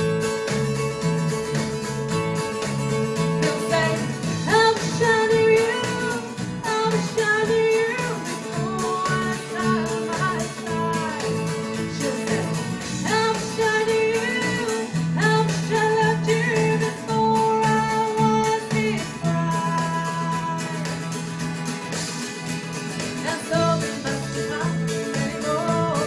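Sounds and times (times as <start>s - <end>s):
strummed guitars: 0.0s - 26.0s
woman singing: 3.4s - 21.4s, 23.0s - 26.0s.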